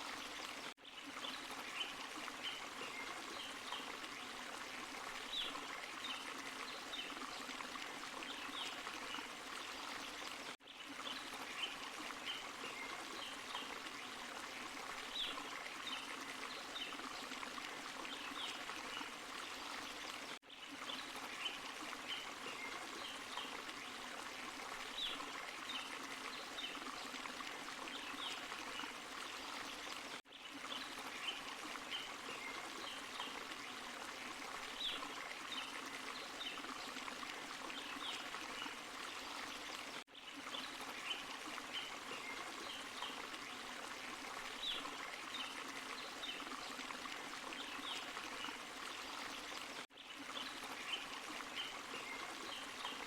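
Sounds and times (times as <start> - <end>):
water running over rocks: 0.0 - 53.0.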